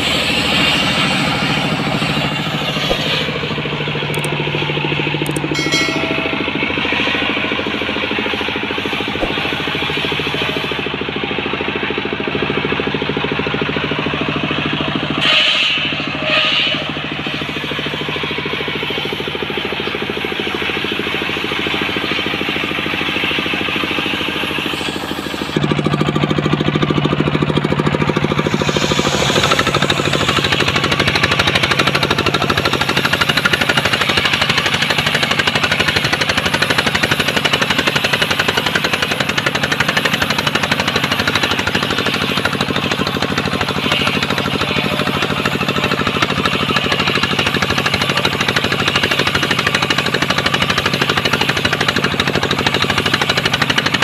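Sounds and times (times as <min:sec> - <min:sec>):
circular saw cutting wood: 0:00.0 - 0:54.0.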